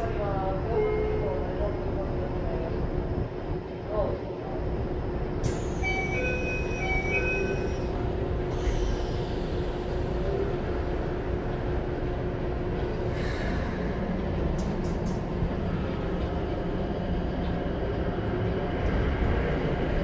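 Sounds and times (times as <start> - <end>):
train car rumbling: 0.0 - 20.0.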